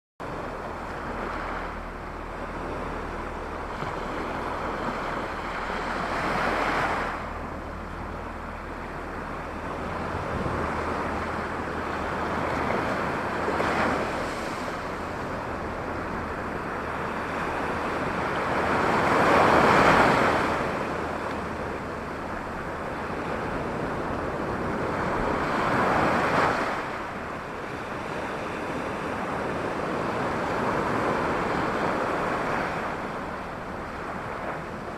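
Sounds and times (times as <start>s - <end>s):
low wind rumble: 0.2s - 34.9s
sea waves washing onto shore: 0.2s - 34.9s.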